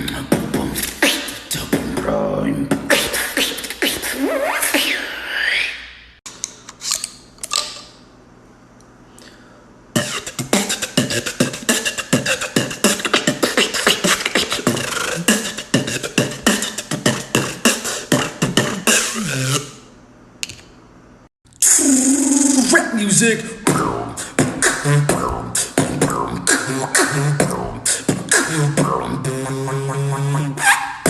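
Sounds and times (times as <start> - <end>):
beatboxing mouth sounds: 0.0 - 5.6, 10.0 - 19.8, 21.5 - 31.0.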